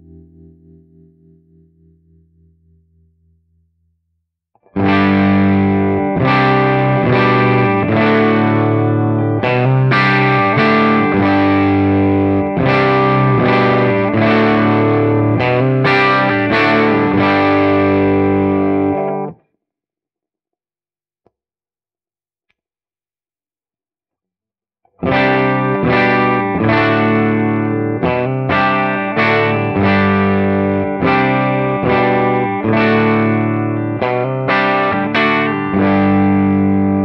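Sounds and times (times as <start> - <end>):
electric guitar chords: 0.0 - 3.4, 4.6 - 19.4, 25.0 - 37.0.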